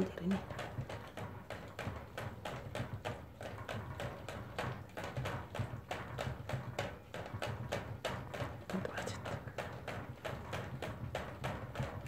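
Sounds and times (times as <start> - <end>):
dog lapping at metal spout: 0.0 - 12.0.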